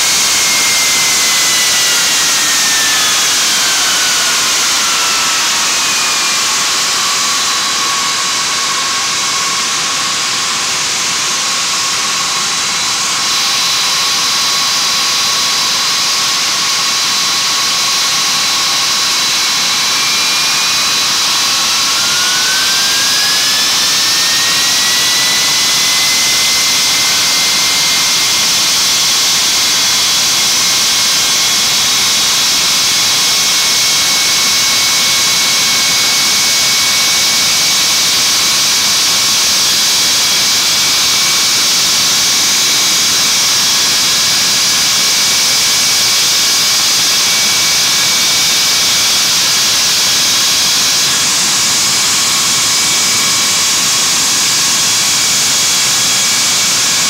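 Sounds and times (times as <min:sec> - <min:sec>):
jet engine whine: 0:00.0 - 0:57.0.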